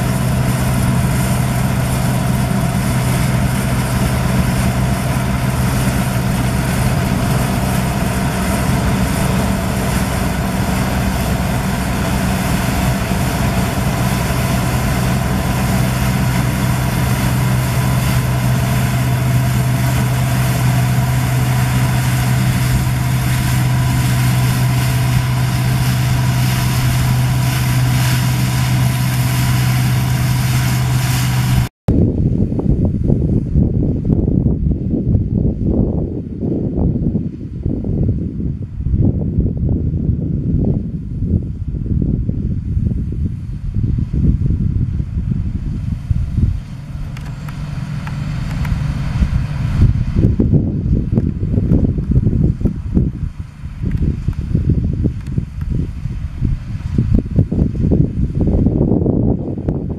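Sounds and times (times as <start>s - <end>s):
combine harvester engine drone: 0.0s - 59.9s
low rushing noise: 0.0s - 59.9s.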